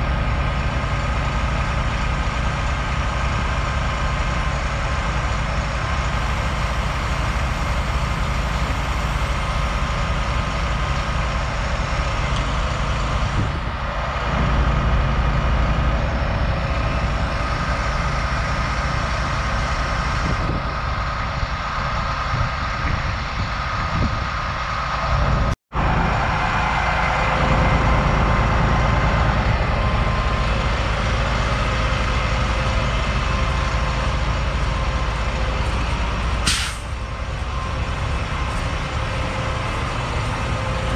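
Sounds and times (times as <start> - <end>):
diesel truck engine running: 0.0 - 40.9
steady whine: 0.0 - 40.9.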